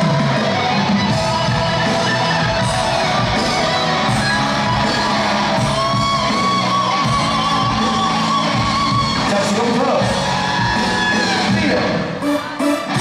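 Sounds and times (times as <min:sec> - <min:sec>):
crowd shouting: 0:00.0 - 0:13.0
live band music with guitar: 0:00.0 - 0:13.0.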